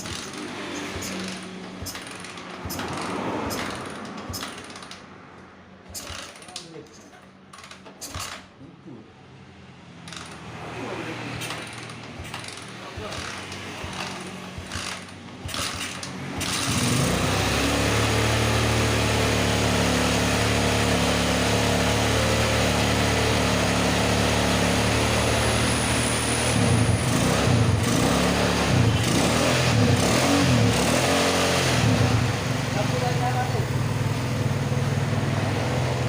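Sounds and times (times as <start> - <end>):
motorcycle engine running: 0.0 - 4.5, 11.4 - 36.0.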